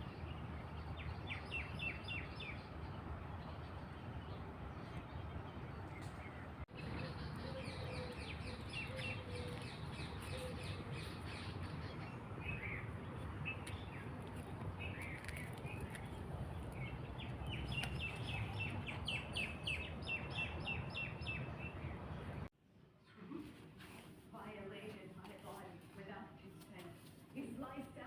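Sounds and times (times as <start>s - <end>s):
small birds chirping: 0.0s - 23.1s.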